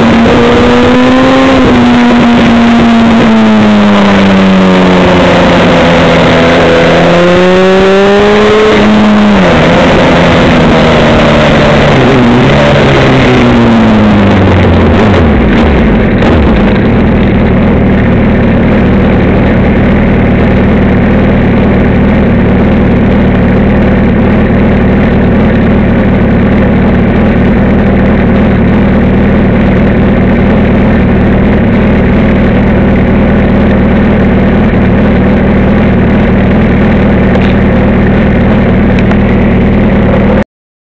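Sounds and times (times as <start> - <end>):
vehicle engine revving and idling: 0.0 - 40.4.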